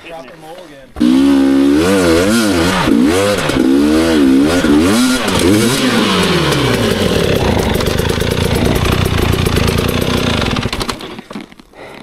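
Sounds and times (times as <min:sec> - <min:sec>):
motorcycle engine revving: 0:01.0 - 0:11.1.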